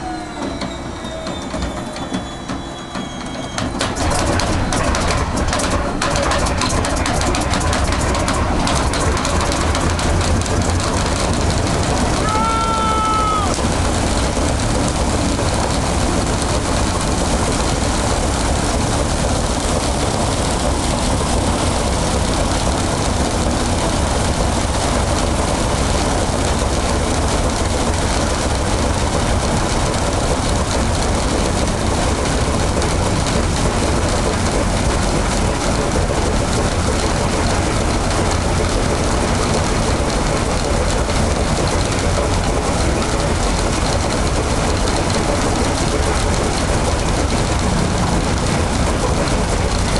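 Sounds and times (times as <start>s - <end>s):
propeller wash: 3.6s - 49.9s
radial piston engine running: 3.6s - 49.9s.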